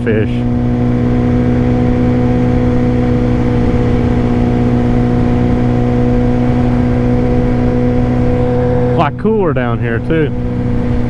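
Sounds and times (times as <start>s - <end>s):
motorcycle engine running steadily: 0.0s - 11.0s
wind rumble on microphone: 0.0s - 11.0s.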